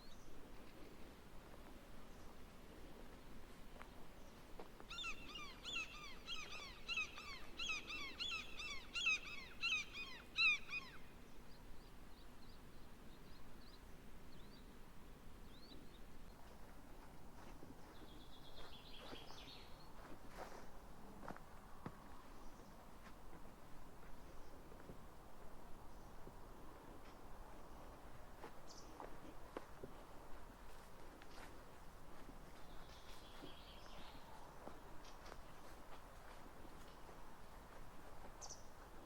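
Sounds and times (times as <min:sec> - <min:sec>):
outdoor background sound: 0:00.0 - 0:39.0.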